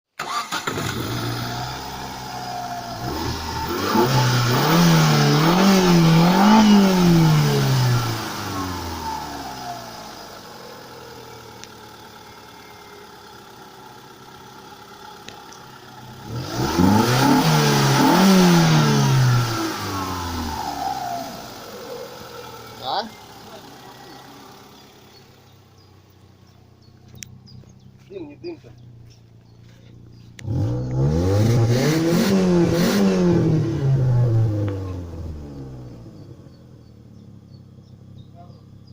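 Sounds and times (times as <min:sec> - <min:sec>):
car engine revving and idling: 0:00.2 - 0:38.9.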